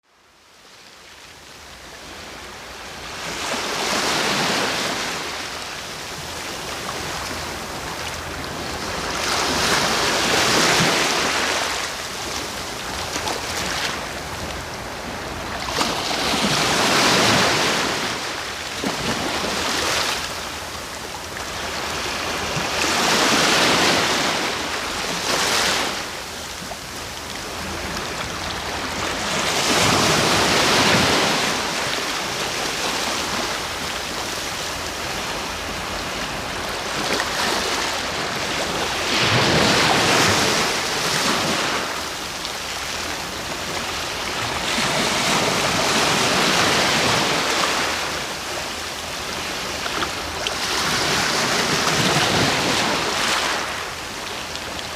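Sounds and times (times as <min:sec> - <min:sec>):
sea waves breaking: 0:02.0 - 0:54.9.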